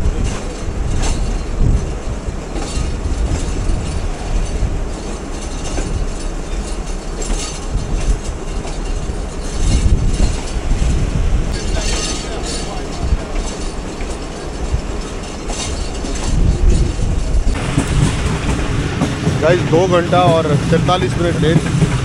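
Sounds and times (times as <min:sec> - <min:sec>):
train rumble: 0:00.0 - 0:22.0
wheels clacking on track: 0:00.0 - 0:22.0.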